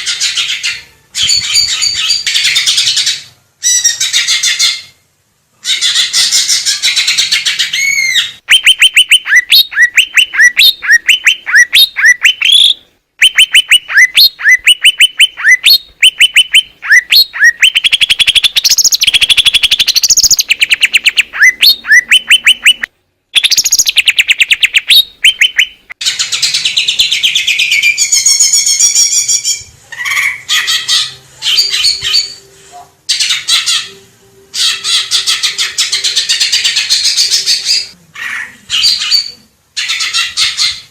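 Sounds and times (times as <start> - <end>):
bird chirping and warbling: 0.0 - 5.0, 5.6 - 32.5, 33.1 - 40.9.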